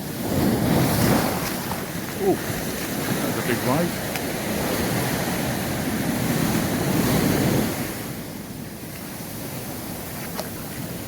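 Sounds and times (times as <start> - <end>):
wave breaking on beach: 0.0 - 11.0.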